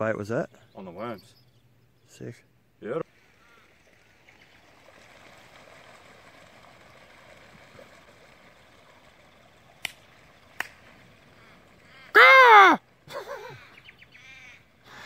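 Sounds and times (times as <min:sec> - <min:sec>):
waterbirds splashing across water: 0:02.2 - 0:15.0.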